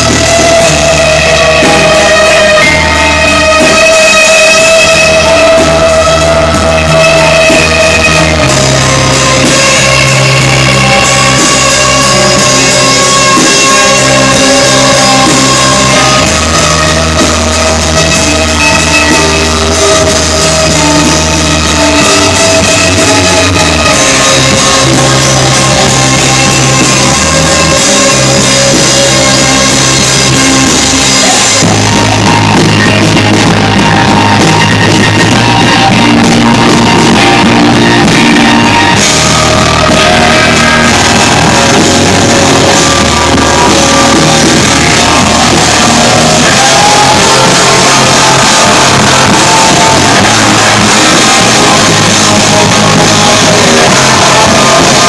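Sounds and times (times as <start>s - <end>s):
bass line: 0.0s - 55.0s
live rock band playing: 0.0s - 55.0s.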